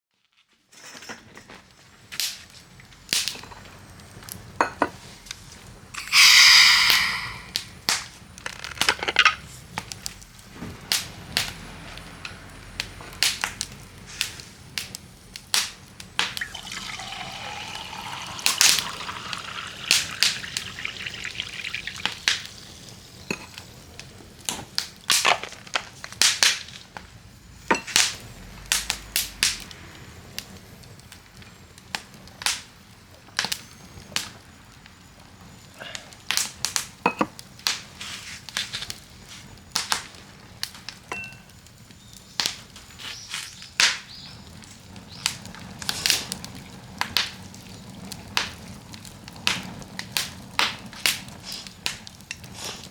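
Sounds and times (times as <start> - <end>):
wood fire crackling: 0.3 - 52.9
loud fire hiss: 1.9 - 8.4, 9.4 - 52.9.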